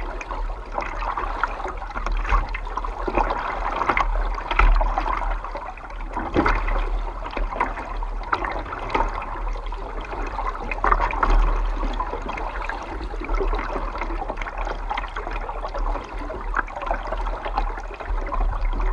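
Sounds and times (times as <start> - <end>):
paddle water splashing: 0.0 - 18.9
steady low rumble: 0.0 - 18.9
water lapping against hull: 0.0 - 18.9.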